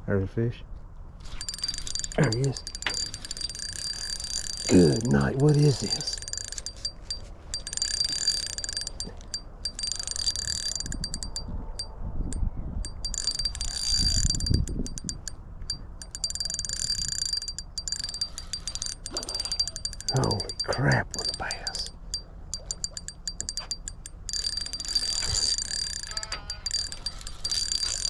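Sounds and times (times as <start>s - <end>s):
fishing reel clicking and whirring: 1.2s - 11.9s, 12.8s - 28.0s.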